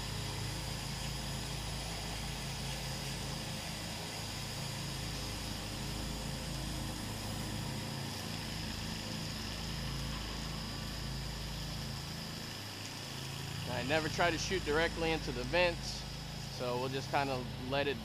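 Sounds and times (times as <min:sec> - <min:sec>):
pressure washer engine running: 0:00.0 - 0:18.0.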